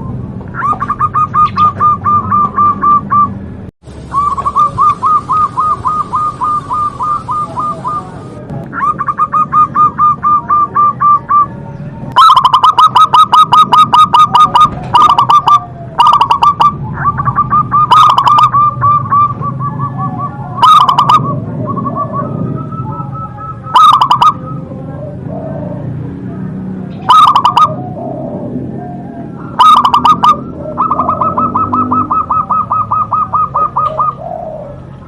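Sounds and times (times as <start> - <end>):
dove cooing: 0.0 - 3.4, 4.0 - 35.0.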